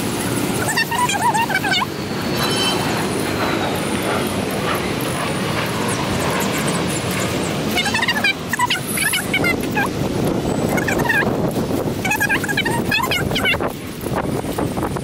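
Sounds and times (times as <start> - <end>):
distant traffic: 0.0 - 15.0.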